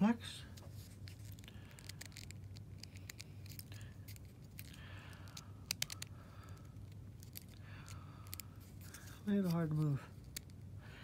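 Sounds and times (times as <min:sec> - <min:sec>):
plastic dial clicks and scraping: 0:01.1 - 0:10.6.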